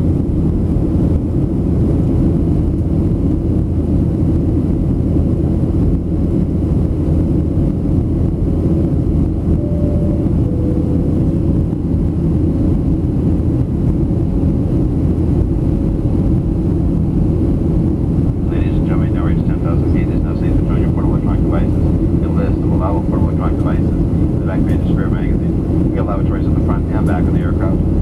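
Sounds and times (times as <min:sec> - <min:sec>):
airplane cabin drone: 0:00.0 - 0:28.0
faint hum: 0:00.0 - 0:28.0.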